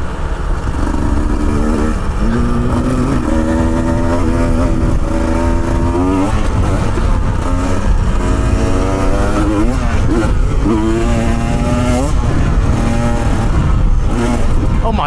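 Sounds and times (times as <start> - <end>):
motorcycle engine revving: 0.0 - 15.0
wind rumble on microphone: 0.0 - 15.0.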